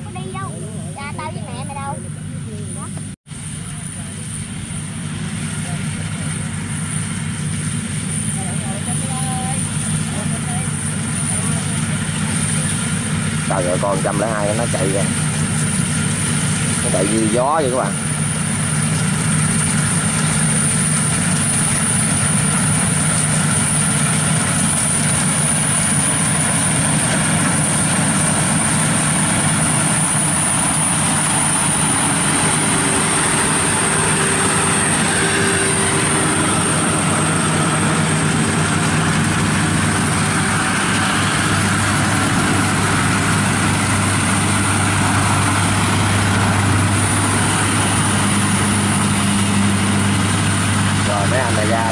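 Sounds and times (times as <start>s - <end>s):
combine harvester humming: 0.0s - 51.9s.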